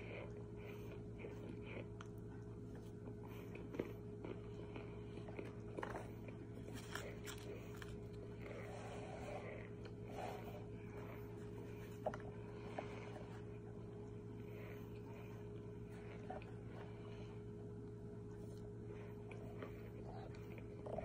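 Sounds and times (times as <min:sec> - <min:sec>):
chewing and crunching: 0:00.0 - 0:21.0
steady low hum: 0:00.0 - 0:21.0.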